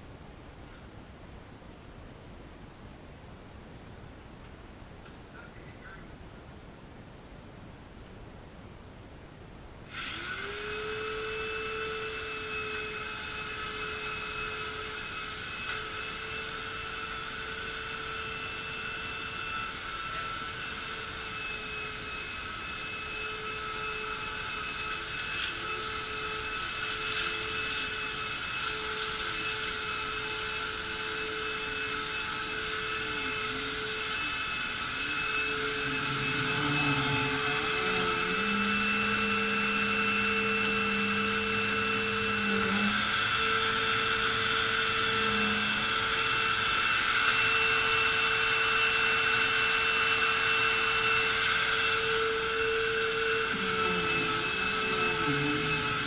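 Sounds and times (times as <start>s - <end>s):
vacuum cleaner running: 9.9s - 56.0s.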